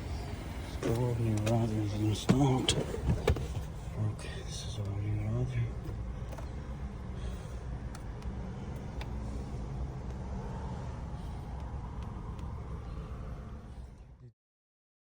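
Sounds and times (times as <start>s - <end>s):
car engine idling: 0.0s - 14.3s.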